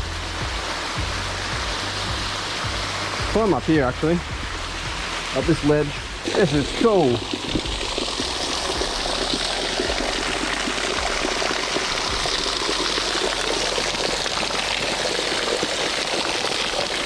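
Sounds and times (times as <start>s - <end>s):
waterfall pouring and splashing: 0.0s - 17.0s.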